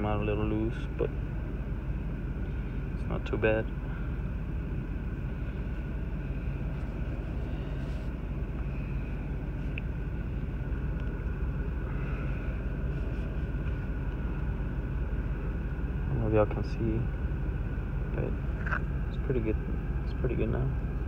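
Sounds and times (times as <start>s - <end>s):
truck engine rumble in cab: 0.0s - 21.0s.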